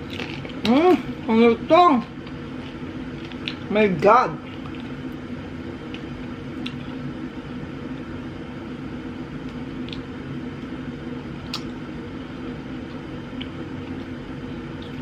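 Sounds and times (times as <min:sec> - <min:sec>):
appliance humming: 0:00.0 - 0:15.0.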